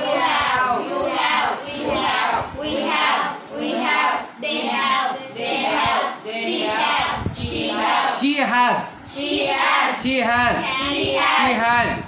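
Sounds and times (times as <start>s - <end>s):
children chanting in unison: 0.0s - 8.2s, 9.1s - 11.6s.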